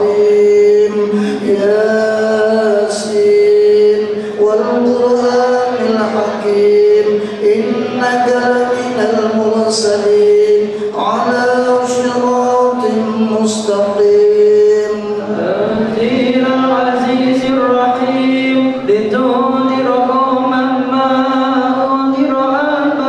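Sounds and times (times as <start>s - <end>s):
man chanting through microphone: 0.0s - 23.0s.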